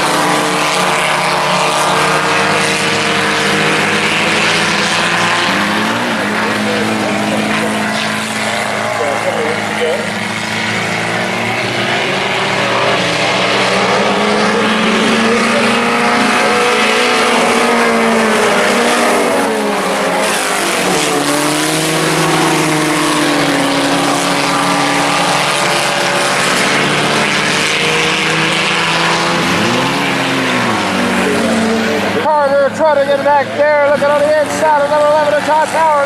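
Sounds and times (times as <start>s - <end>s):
car passing close by: 0.0s - 36.0s
race car engines at speed: 0.0s - 36.0s.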